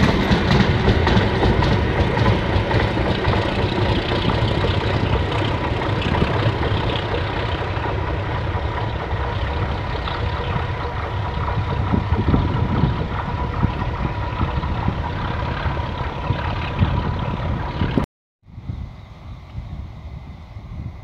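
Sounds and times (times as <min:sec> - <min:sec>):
diesel locomotive engine: 0:00.0 - 0:18.0
train wheels rumbling on rails: 0:00.0 - 0:18.0
wind: 0:00.0 - 0:21.0.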